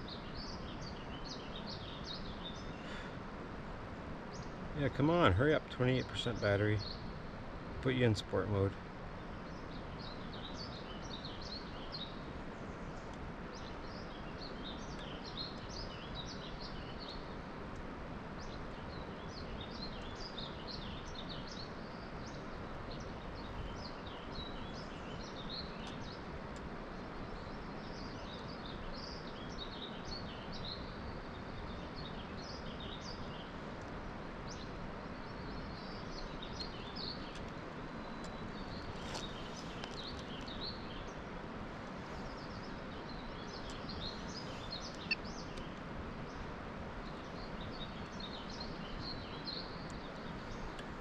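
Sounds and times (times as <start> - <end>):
outdoor background hiss: 0.0 - 51.0
small birds chirping: 0.0 - 51.0.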